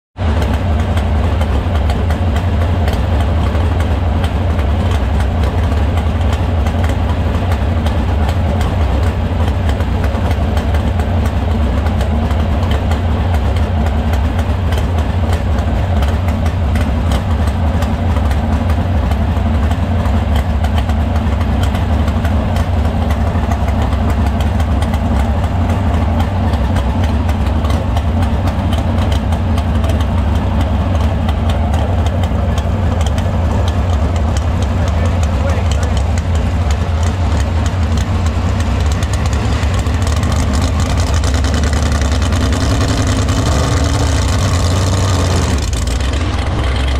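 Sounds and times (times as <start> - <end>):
engine idling: 0.2 - 46.9.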